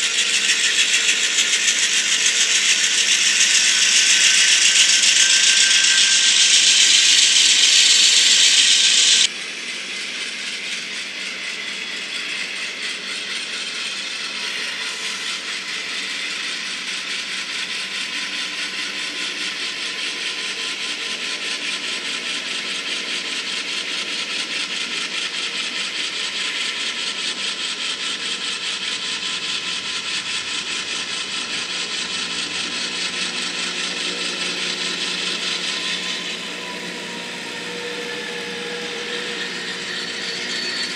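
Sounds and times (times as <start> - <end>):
model train rattling on track: 0.0 - 40.9.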